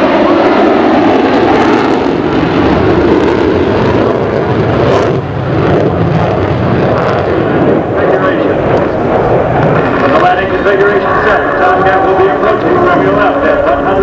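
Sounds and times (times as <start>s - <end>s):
jet engines in flight: 0.0s - 14.0s.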